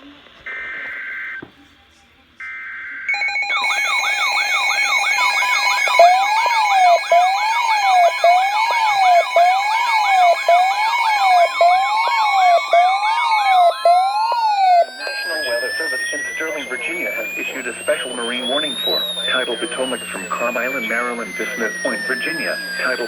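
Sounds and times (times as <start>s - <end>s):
electronic siren tones: 0.5s - 1.5s, 2.4s - 23.0s.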